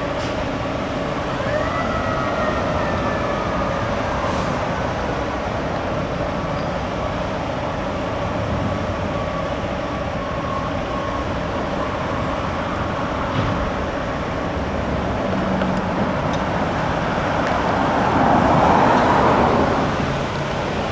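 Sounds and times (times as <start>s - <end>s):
rush of road traffic: 0.0s - 20.9s.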